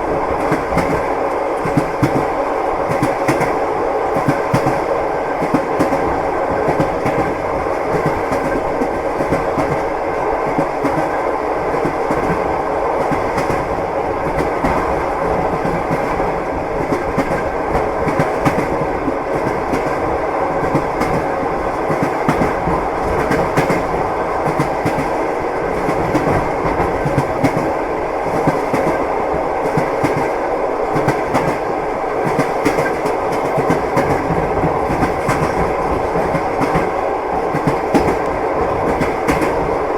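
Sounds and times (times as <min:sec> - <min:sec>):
train rumble: 0:00.0 - 0:39.9
train wheels clacking on rails: 0:00.0 - 0:39.9.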